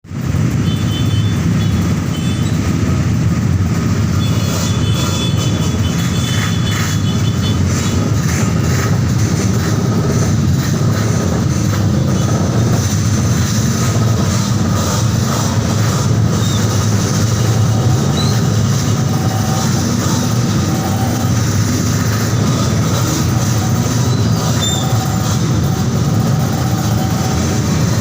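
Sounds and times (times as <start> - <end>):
ferry engines rumbling: 0.0 - 28.0.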